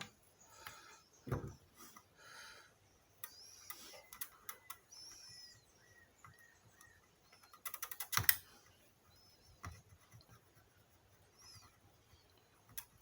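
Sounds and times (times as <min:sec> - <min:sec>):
faint bird chirps: 0:00.1 - 0:13.0.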